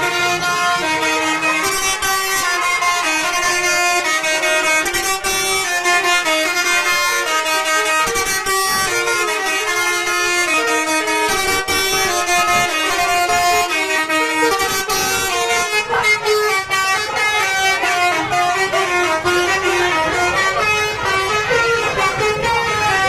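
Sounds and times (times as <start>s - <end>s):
multi-note air horn melody: 0.0s - 23.0s.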